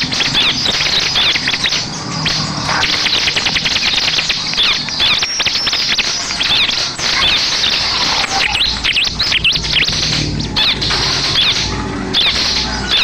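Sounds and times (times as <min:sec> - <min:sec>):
bird singing high sharp chirps: 0:00.0 - 0:13.0.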